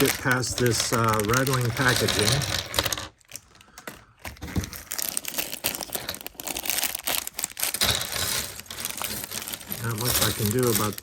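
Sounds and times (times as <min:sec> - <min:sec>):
plastic bags crinkling and tearing: 0:00.0 - 0:11.0
small plastic pieces rattling: 0:00.0 - 0:11.0.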